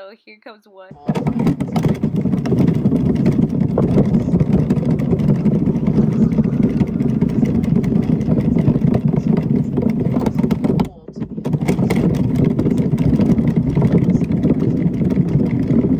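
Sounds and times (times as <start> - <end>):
knitting machine clattering: 0.9 - 15.9.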